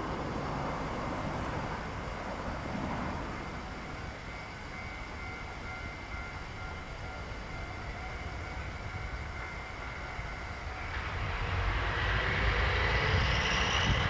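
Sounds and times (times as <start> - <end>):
distant diesel locomotive running: 0.0 - 14.0.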